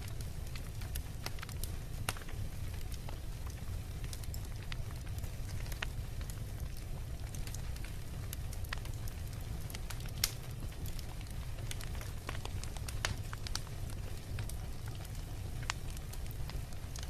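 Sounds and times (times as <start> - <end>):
bonfire crackling: 0.0 - 17.0
sharp pops of burning wood: 0.4 - 17.0.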